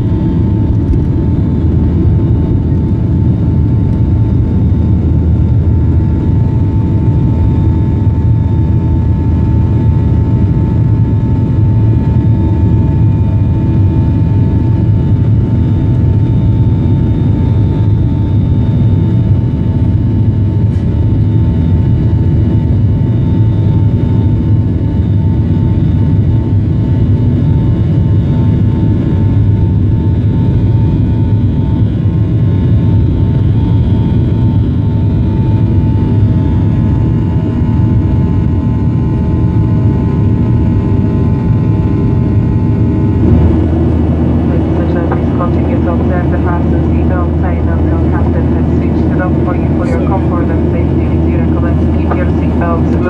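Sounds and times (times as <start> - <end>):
jet engine roar: 0.0 - 53.0
jet engine whine: 0.0 - 53.0.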